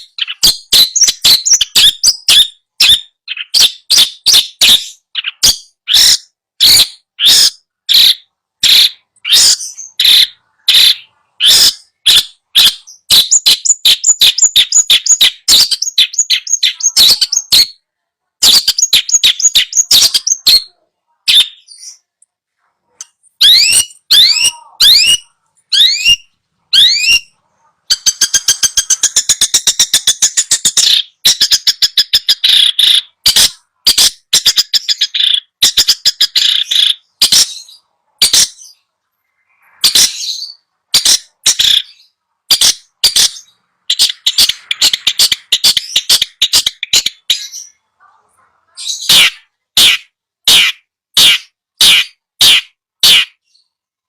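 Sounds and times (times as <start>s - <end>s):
bird chattering trills: 0.0s - 17.8s, 18.4s - 22.0s, 23.0s - 38.7s, 39.4s - 47.8s
harsh sharp bird calls: 0.0s - 53.8s
recorded birdsong: 0.0s - 54.0s.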